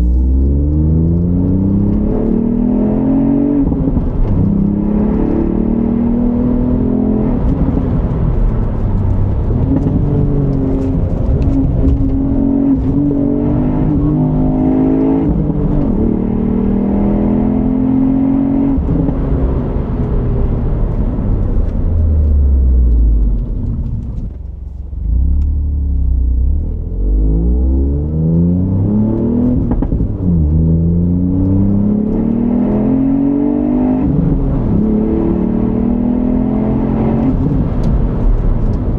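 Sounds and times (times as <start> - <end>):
car engine revving hard: 0.1 - 19.4, 26.7 - 38.9.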